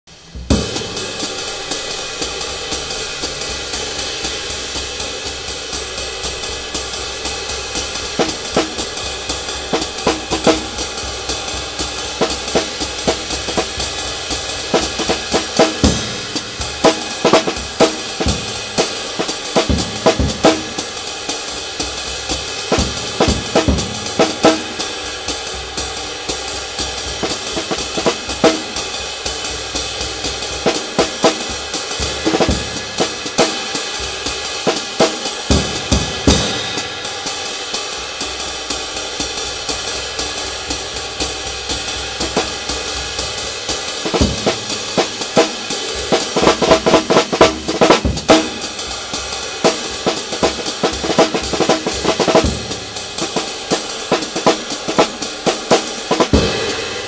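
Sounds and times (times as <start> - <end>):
cymbal wash: 0.1 - 57.0
snare and bass drum strokes: 0.1 - 57.0.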